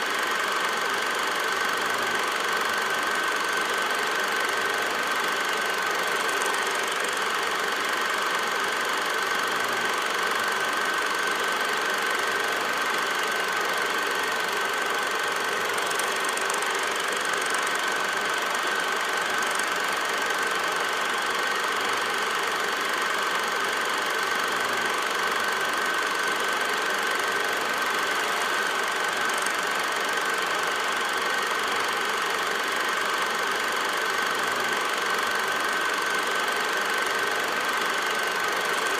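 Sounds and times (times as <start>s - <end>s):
constant high whine: 0.0s - 38.9s.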